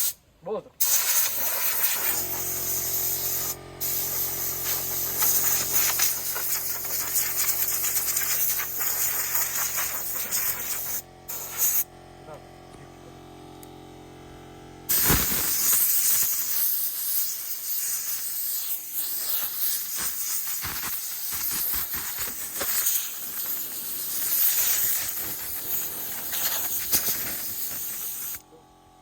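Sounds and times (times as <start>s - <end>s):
compressed air hissing: 0.0s - 0.2s, 0.8s - 11.9s, 14.9s - 28.4s.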